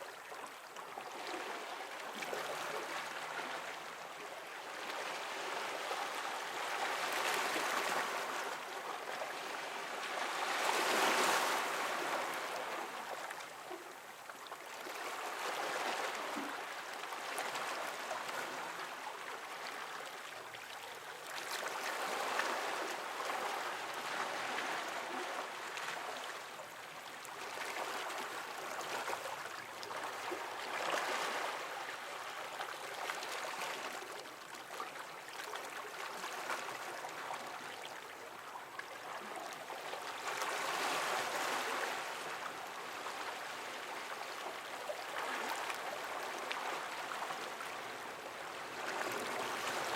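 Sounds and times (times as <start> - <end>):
small waves lapping against rocks: 4.8 - 49.9.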